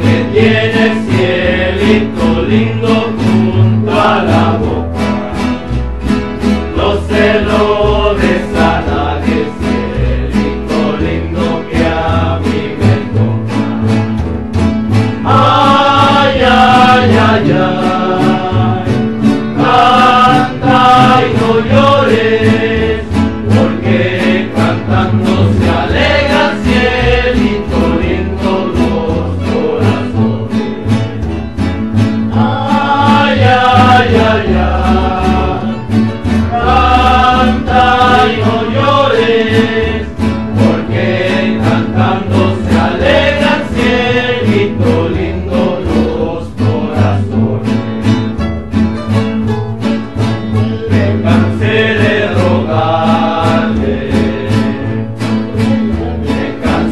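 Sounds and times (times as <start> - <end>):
group of men singing: 0.0 - 14.3, 14.9 - 31.4, 32.0 - 48.3, 50.2 - 56.9
double bass: 0.0 - 56.9
strummed acoustic guitars: 0.0 - 56.9.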